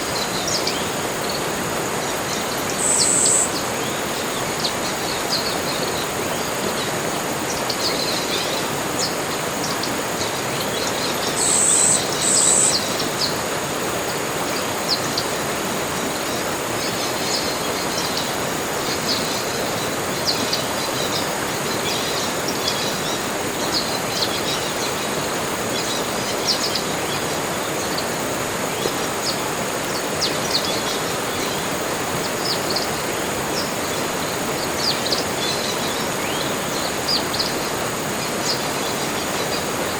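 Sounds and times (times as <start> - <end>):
small birds chirping: 0.0 - 39.9
steady hiss: 0.0 - 39.9.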